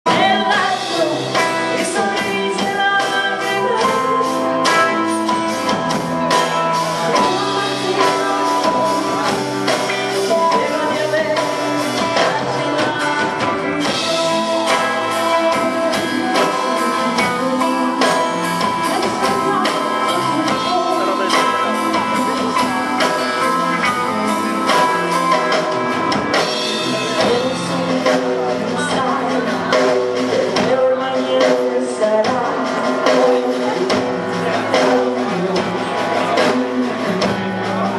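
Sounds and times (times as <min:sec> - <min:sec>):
live rock band playing: 0:00.0 - 0:37.9
woman singing: 0:00.1 - 0:37.9.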